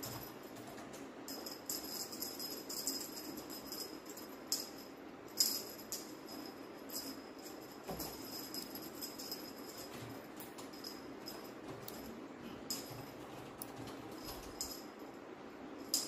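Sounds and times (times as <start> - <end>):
small jingle bell jingling: 0.0 - 15.2, 15.8 - 16.0.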